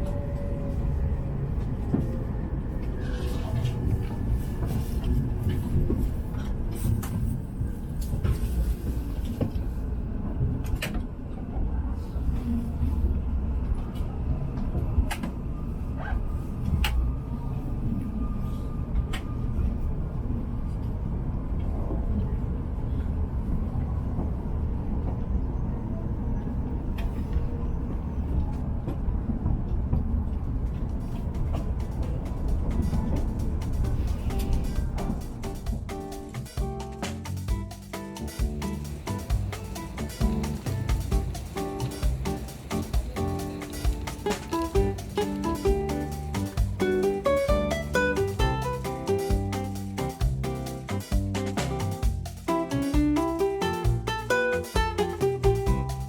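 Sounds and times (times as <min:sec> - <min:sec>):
train cabin running rumble: 0:00.0 - 0:56.0.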